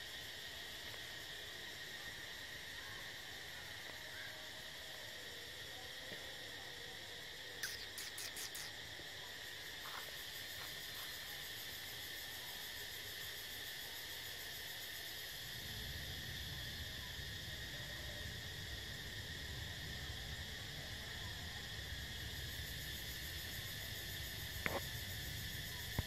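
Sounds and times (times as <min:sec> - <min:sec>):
shrill insect chorus: 0:00.0 - 0:26.0.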